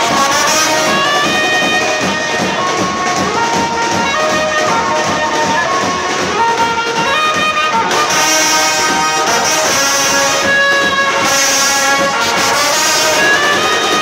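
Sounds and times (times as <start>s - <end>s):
brass band playing: 0.0s - 14.0s
drums: 0.0s - 14.0s.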